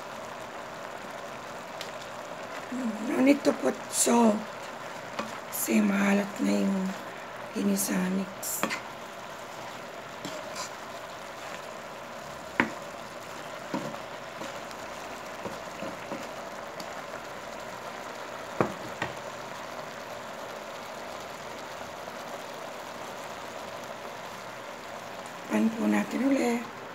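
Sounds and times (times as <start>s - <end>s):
vegetables sizzling in a wok: 0.0s - 26.9s.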